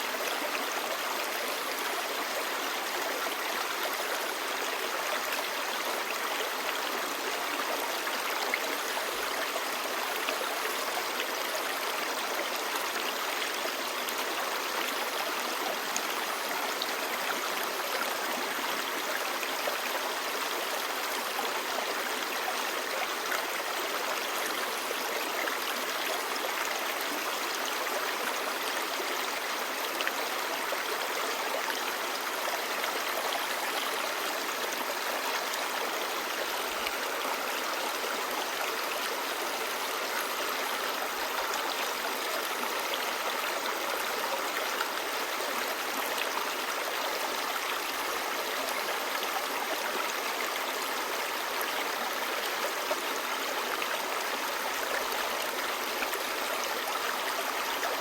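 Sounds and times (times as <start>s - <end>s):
river babbling: 0.0s - 58.0s.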